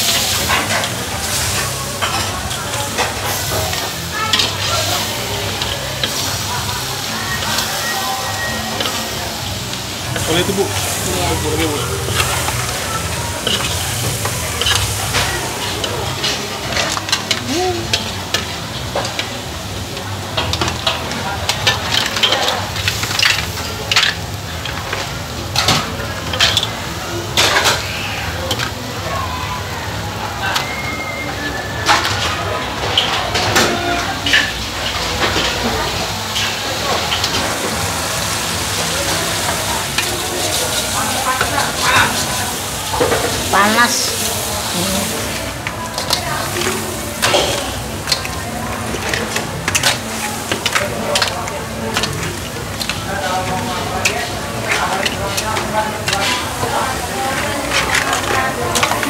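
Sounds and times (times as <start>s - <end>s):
oil and sauce sizzling: 0.0s - 59.0s.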